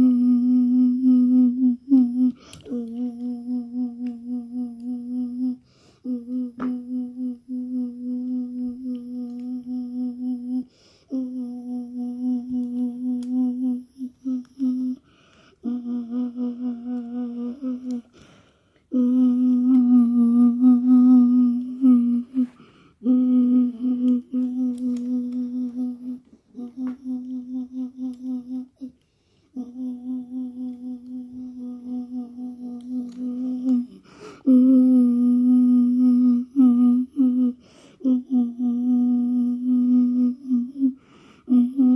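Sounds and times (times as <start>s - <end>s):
person humming pulsing low note: 0.0s - 18.1s, 18.9s - 29.0s, 29.6s - 41.9s.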